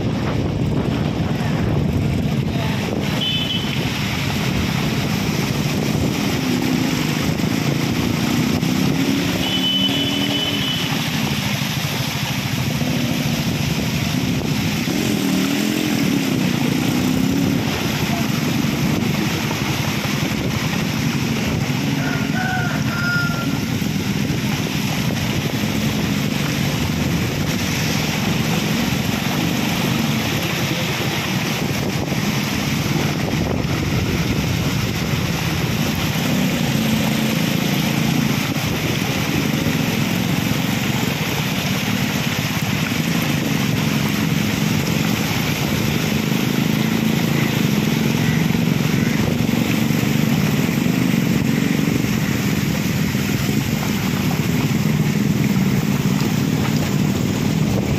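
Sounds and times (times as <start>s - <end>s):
wind on microphone: 0.0s - 9.1s, 12.6s - 57.9s
motorcycle engine running: 0.0s - 57.9s
tyres hissing through water: 2.1s - 57.9s.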